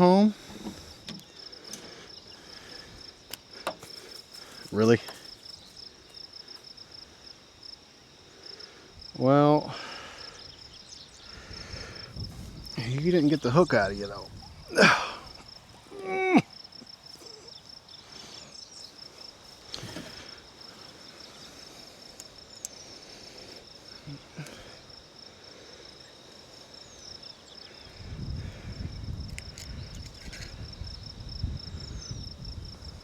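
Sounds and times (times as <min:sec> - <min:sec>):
insect trilling: 0:00.0 - 0:33.0.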